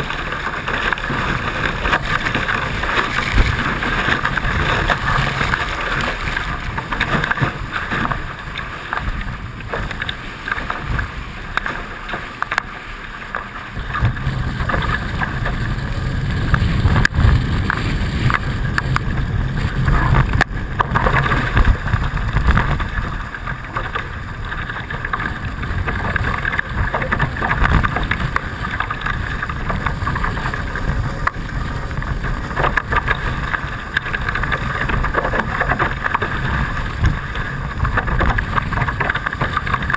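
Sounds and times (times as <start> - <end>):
wind buffeting microphone: 0.0 - 11.4, 13.7 - 39.9
water rushing along hulls: 0.0 - 39.9.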